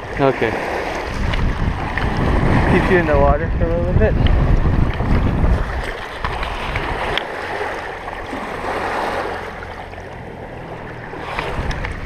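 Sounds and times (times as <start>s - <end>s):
waves lapping on rocks: 0.0s - 12.0s
wind on microphone: 0.0s - 12.0s.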